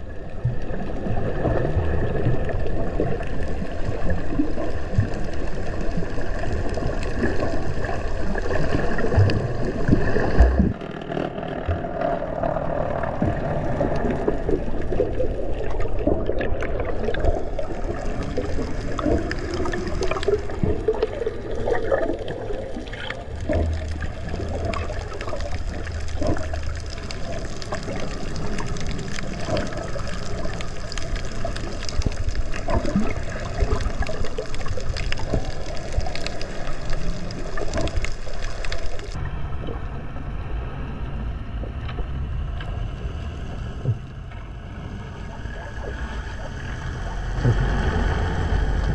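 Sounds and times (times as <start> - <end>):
water rushing and bubbling underwater: 0.0 - 48.9.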